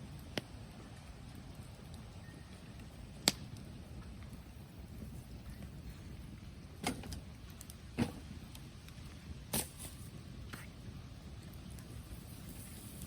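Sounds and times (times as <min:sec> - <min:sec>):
bonfire crackling: 0:00.0 - 0:13.0
burning wood popping: 0:00.0 - 0:13.0.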